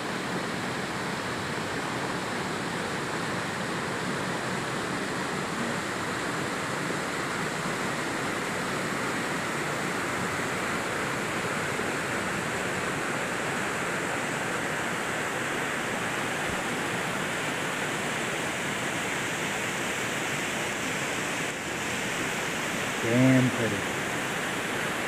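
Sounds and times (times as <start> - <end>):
waterfall rushing: 0.1 - 25.0.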